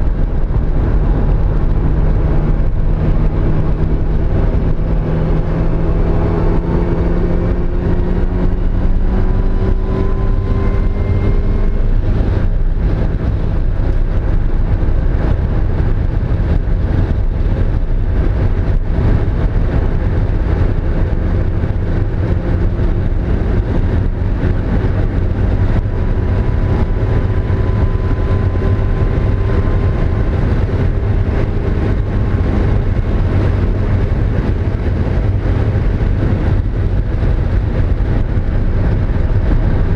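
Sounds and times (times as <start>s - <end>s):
car engine under load: 0.0s - 39.9s
road noise: 0.0s - 39.9s.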